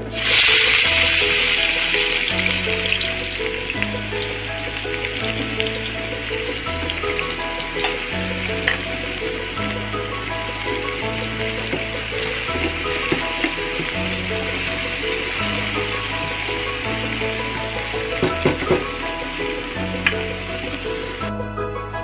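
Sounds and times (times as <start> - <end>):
background music with held notes: 0.0 - 22.0
onions sizzling in oil: 0.1 - 21.2.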